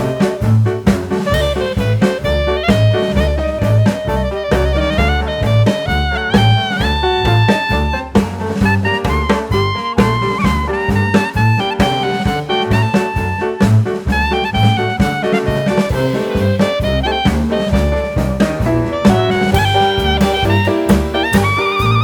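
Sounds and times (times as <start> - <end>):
jazz music: 0.0 - 22.0.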